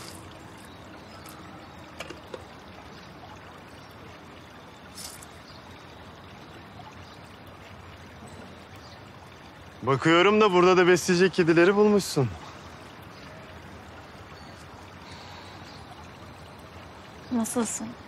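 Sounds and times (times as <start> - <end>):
outdoor background rushing hiss: 0.0 - 18.0.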